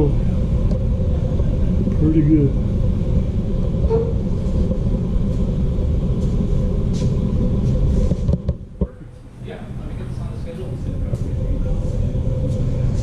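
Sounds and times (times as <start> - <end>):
faint hum: 0.0 - 13.0
low rumble: 0.0 - 13.0.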